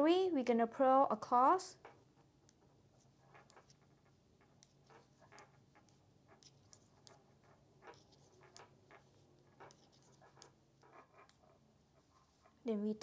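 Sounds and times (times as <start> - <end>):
knitting needles clicking: 1.7 - 12.7.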